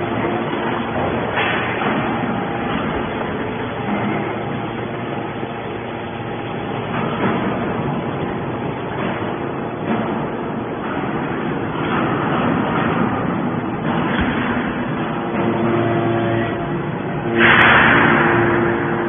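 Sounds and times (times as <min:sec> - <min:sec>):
hydraulic baler motor drone: 0:00.0 - 0:19.0.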